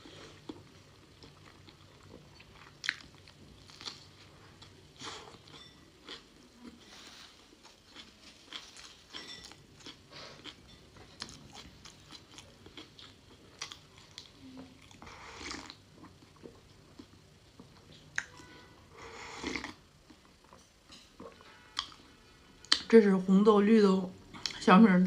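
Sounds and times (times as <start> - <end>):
person chewing food: 0.0 - 22.9.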